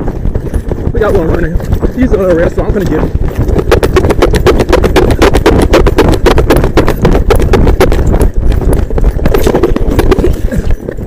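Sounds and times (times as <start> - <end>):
running footsteps: 0.0 - 11.0.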